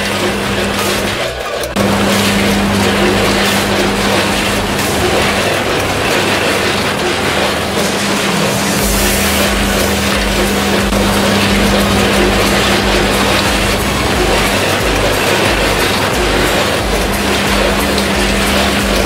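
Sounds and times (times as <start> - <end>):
constant low hum: 0.0 - 19.0
low pulsing: 0.0 - 19.0
packing machine running: 0.0 - 19.0.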